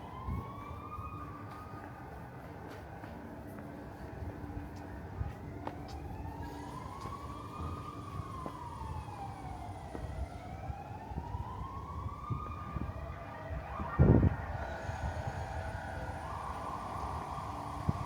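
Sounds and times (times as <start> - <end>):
emergency siren wailing: 0.0 - 3.5, 4.1 - 18.0
city street noise: 0.0 - 18.0.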